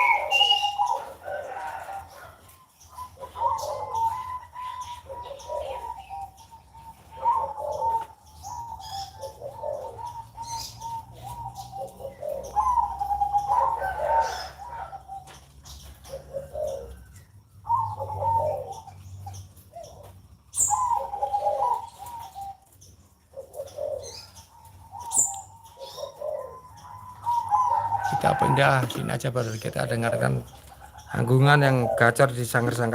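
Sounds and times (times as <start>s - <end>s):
doves cooing: 0.0s - 32.9s
small birds chirping: 0.0s - 32.9s.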